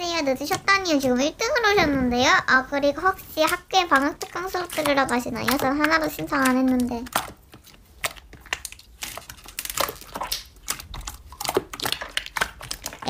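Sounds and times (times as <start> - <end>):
slime clicking and crackling: 0.0 - 1.3, 2.9 - 13.0.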